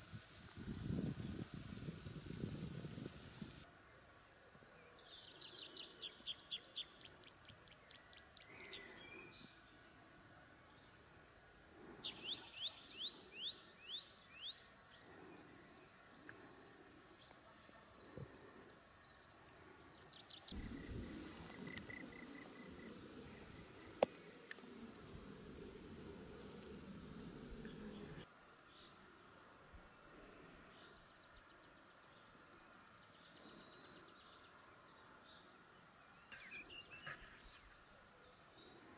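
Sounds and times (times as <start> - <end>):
crickets chirring: 0.0 - 3.7, 4.6 - 38.9.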